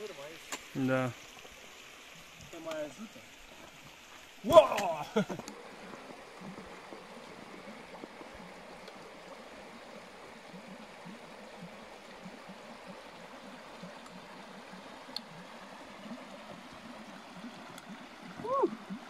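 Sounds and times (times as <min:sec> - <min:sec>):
stream running over stones: 0:00.0 - 0:19.0.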